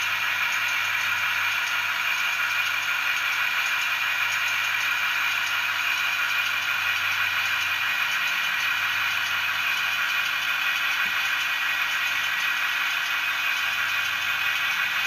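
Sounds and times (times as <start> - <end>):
model train diesel engine sound: 0.0 - 15.0.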